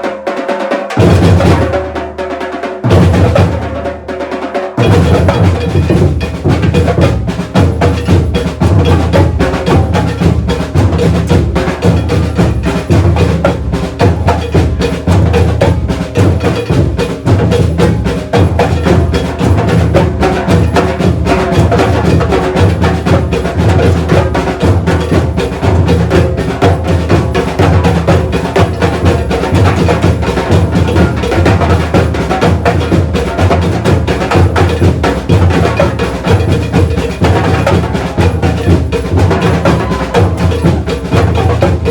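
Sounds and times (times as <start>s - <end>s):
fast higher drum strokes: 0.0s - 41.9s.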